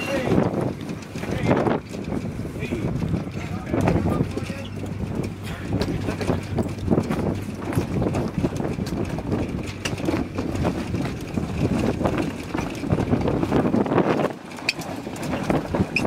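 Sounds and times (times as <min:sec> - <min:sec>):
wind buffeting microphone: 0:00.0 - 0:16.0
knocks and clicks: 0:00.5 - 0:16.0.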